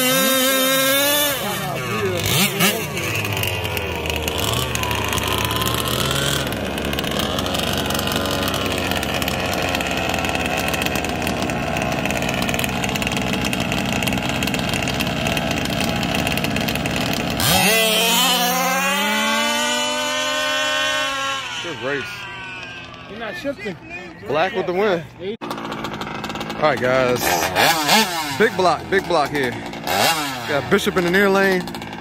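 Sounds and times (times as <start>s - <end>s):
two-stroke engines idling and revving: 0.0s - 32.0s.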